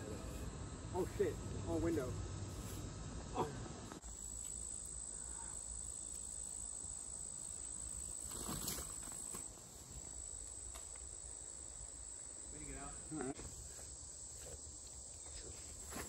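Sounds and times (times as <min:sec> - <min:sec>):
insects trilling: 0:00.0 - 0:16.0
low outdoor background noise: 0:00.0 - 0:16.0.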